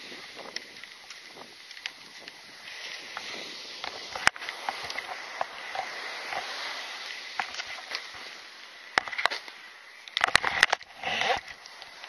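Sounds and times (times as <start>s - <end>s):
surf washing on shore: 0.0s - 12.0s.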